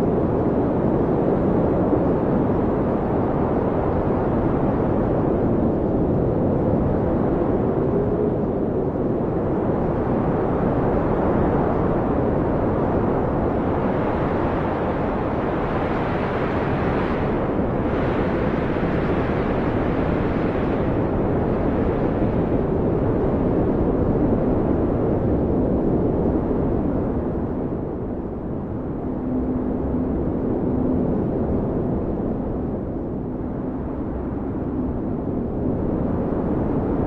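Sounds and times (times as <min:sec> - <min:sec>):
blizzard wind howling: 0:00.0 - 0:37.0.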